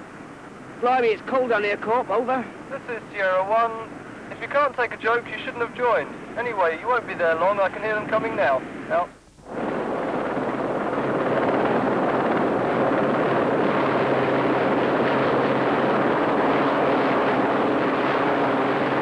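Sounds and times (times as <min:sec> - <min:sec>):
helicopter rotor and turbine: 0:00.0 - 0:19.0.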